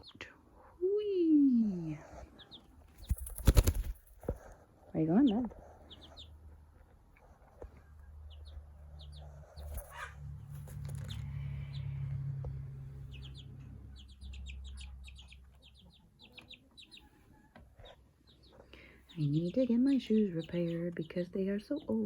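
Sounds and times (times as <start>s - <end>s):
chick peeping: 0.0s - 0.7s, 1.6s - 22.0s.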